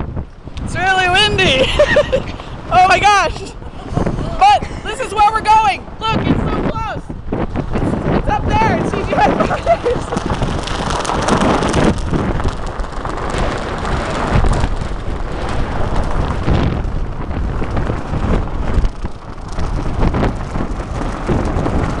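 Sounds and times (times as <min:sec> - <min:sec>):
storm wind buffeting microphone: 0:00.0 - 0:22.0.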